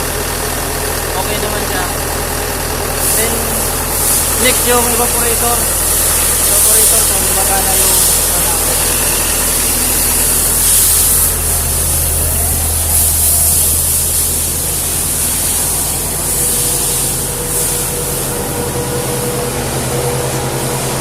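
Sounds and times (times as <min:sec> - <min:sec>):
fans rushing air: 0:00.0 - 0:21.0
low hum of engine: 0:00.0 - 0:21.0.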